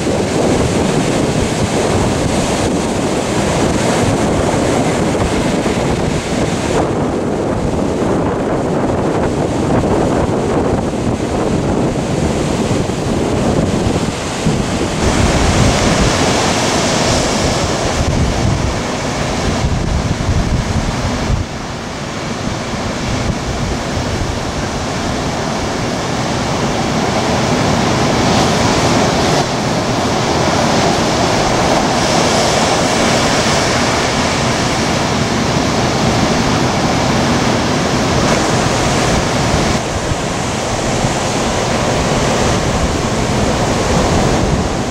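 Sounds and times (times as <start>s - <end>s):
ocean surf breaking: 0.0s - 44.9s
wind buffeting microphone: 0.0s - 44.9s.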